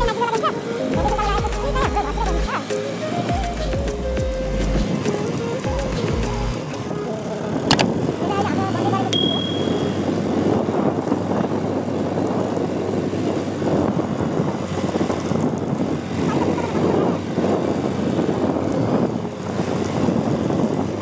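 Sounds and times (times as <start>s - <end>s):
wind buffeting on microphone: 0.0s - 9.1s, 9.9s - 21.0s
motorcycle engine hum: 0.0s - 21.0s.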